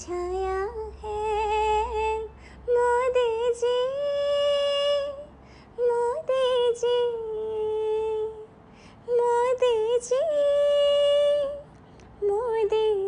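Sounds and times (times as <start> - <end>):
woman singing wordless melody: 0.0 - 13.0.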